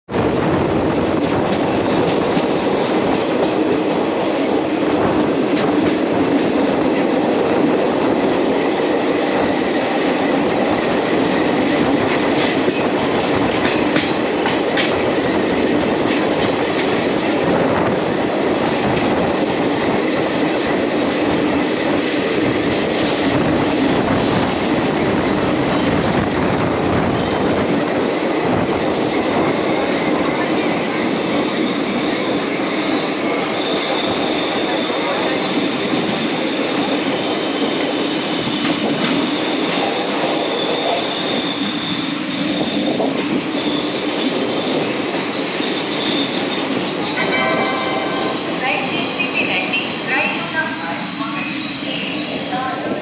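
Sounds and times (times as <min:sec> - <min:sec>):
train wheels rumbling on rails: 0:00.1 - 0:53.0.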